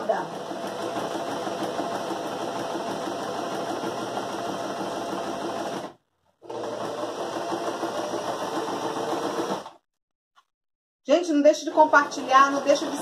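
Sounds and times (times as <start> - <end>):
sewing machine stitching: 0.0 - 9.8, 11.6 - 13.0.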